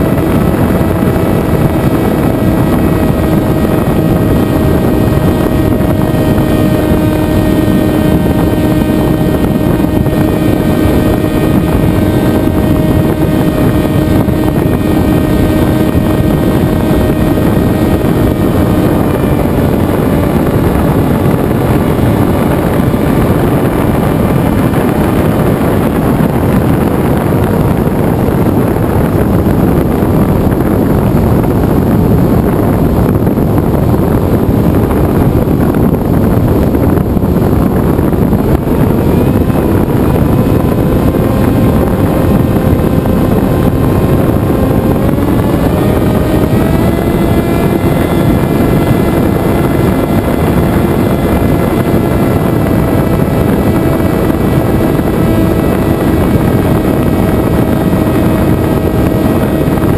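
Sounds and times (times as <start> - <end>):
electric motor and propeller hum: 0.0 - 59.9
wind rush on camera: 0.0 - 59.9.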